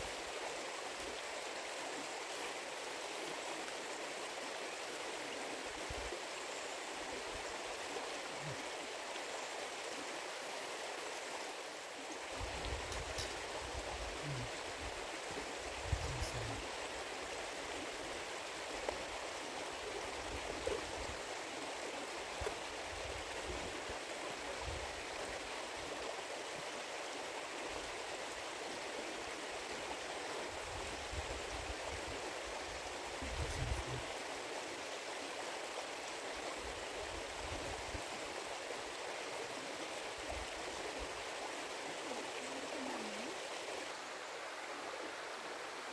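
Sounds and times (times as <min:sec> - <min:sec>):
mountain stream rushing: 0:00.0 - 0:45.9.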